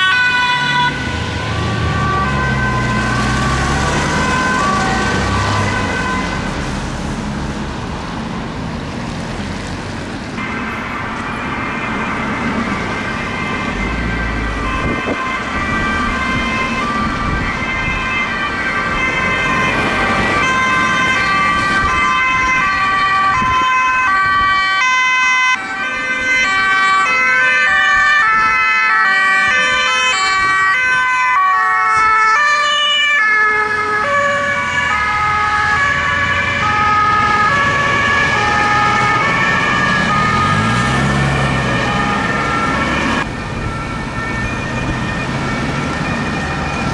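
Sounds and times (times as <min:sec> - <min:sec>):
car engines passing: 0:00.0 - 0:46.9
two-tone sirens overlapping: 0:00.0 - 0:46.9.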